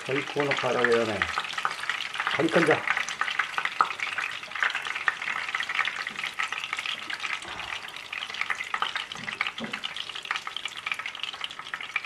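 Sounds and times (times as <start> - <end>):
oil sizzling and popping: 0.0 - 12.0.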